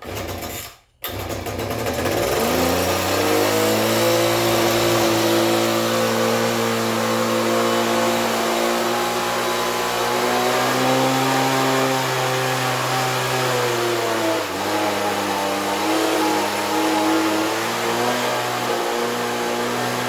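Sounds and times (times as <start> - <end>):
petrol engine starting and revving: 0.0 - 20.0.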